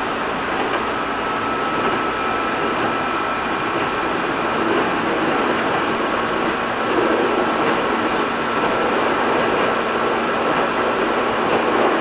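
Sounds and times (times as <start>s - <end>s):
electric train rumble from inside: 0.0s - 12.0s.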